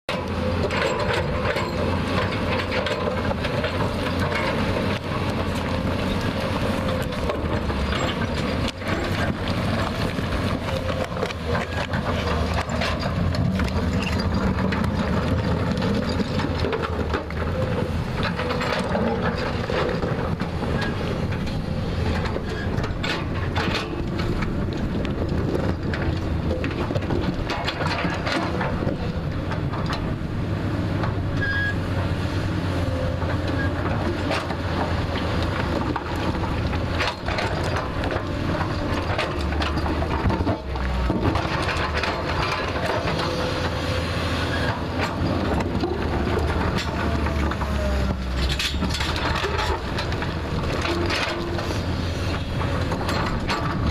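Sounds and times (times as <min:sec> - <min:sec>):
diesel engine running under load: 0:00.1 - 0:53.9.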